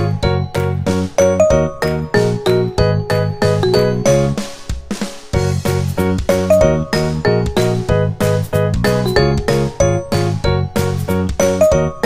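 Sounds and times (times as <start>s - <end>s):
bouncy chiming tune over beat: 0.0s - 12.0s.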